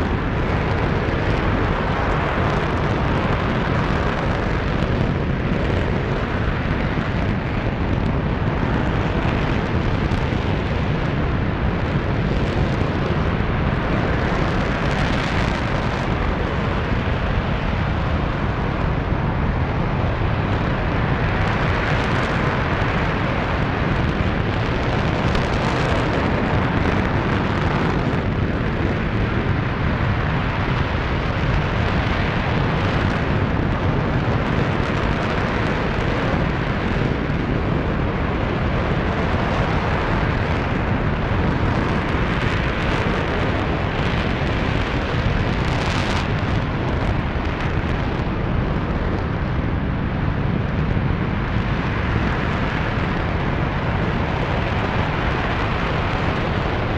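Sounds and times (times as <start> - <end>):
rocket engine roaring: 0.0 - 56.9.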